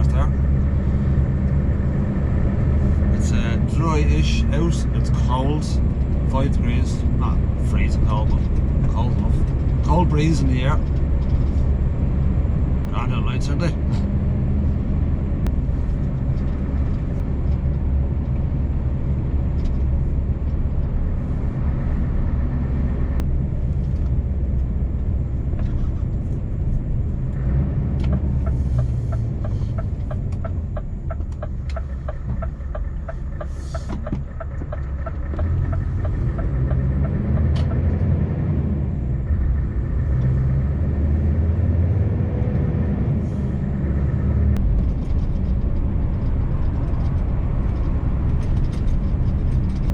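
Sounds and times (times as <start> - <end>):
truck engine droning: 0.0 - 49.9.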